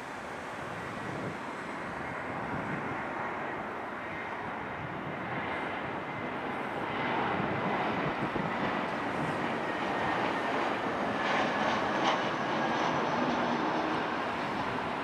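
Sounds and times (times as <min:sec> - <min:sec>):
jet airliner rush: 0:00.0 - 0:15.0.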